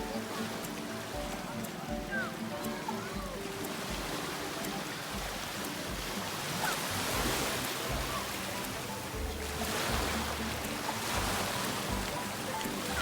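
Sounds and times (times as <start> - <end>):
faint music: 0.0 - 13.0
waves washing on a beach: 0.0 - 13.0.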